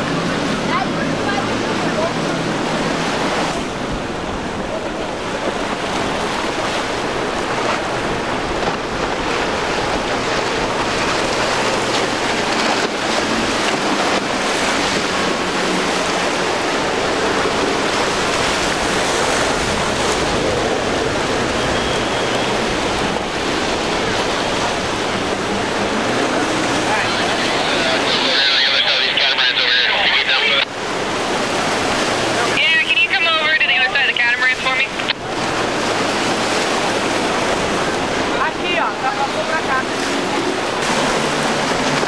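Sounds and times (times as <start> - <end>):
outboard engines droning: 0.0 - 42.0
surf breaking and churning: 0.0 - 42.0.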